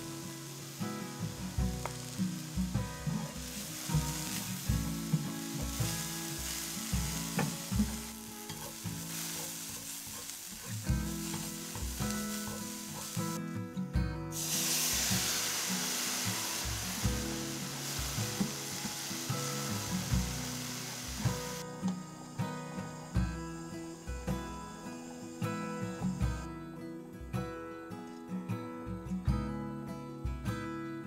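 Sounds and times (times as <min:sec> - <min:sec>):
vegetables sizzling on a griddle: 0:00.0 - 0:13.4, 0:14.3 - 0:26.4.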